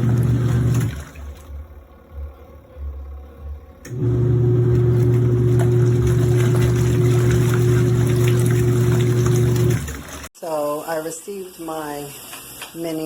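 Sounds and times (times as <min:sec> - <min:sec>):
washing machine motor humming: 0:00.0 - 0:10.6.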